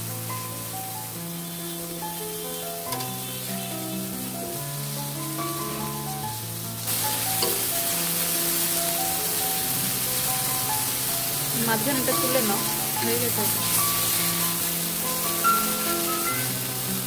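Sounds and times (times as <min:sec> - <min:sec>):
background music with held notes: 0:00.0 - 0:17.0
vegetable slices sizzling in oil: 0:00.0 - 0:17.0
spatula turning slices: 0:02.2 - 0:17.0.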